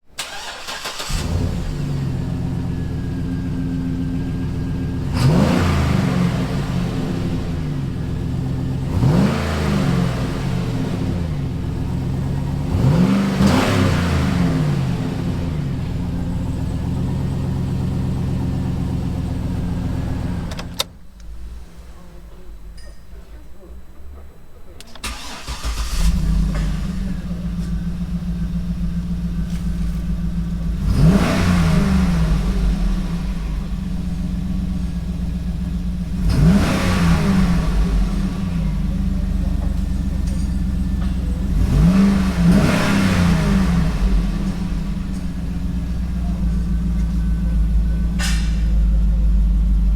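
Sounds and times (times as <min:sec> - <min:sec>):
engine exhaust idling and revving: 0:00.0 - 0:49.9.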